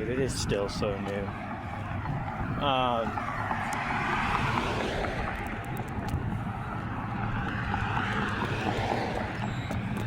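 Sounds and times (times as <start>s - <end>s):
traffic engine drone: 0.0s - 10.0s.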